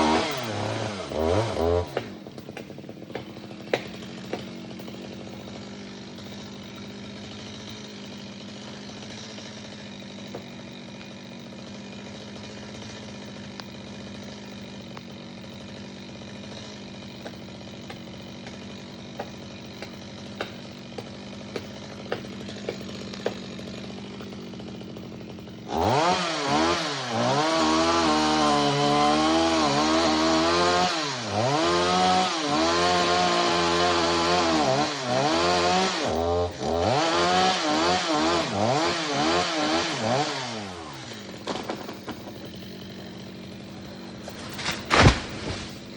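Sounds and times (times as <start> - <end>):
chainsaw cutting into wood: 0.0 - 45.9
chainsaw idling: 0.0 - 45.9.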